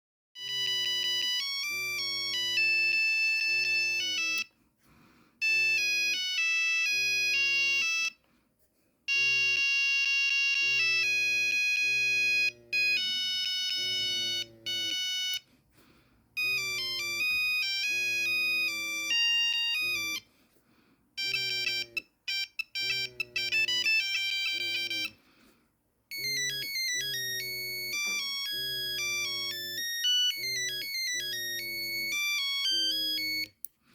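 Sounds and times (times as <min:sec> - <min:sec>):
monophonic phone ringtones: 0:00.4 - 0:04.5, 0:05.4 - 0:08.2, 0:09.1 - 0:15.4, 0:16.4 - 0:20.3, 0:21.2 - 0:25.2, 0:26.1 - 0:33.6.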